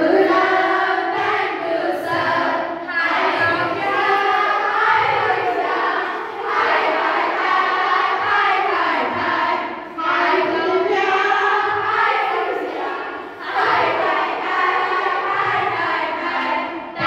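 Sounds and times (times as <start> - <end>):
women singing and shouting together: 0.0 - 17.0.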